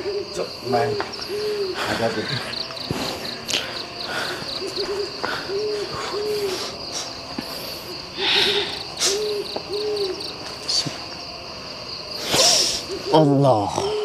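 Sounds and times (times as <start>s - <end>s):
owl hooting: 0.0s - 11.1s, 12.1s - 14.0s
insects chirping: 0.0s - 14.0s.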